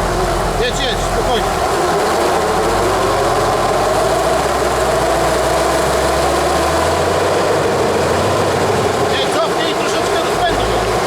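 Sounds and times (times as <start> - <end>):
vehicle engine at low revs: 0.0 - 11.0.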